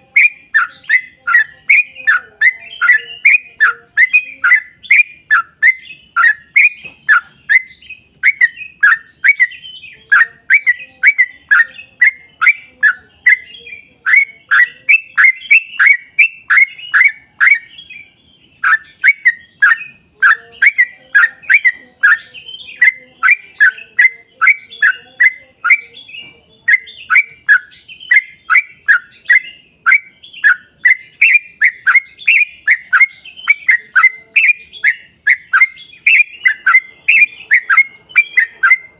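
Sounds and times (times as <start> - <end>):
bulbul singing rapid falling notes: 0.0 - 38.9.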